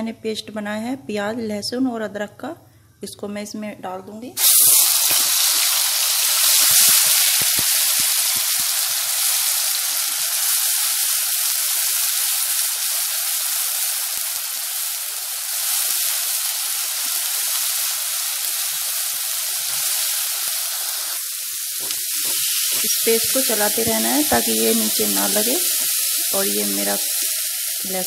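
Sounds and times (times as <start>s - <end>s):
paste sizzling in hot oil: 4.4s - 28.0s.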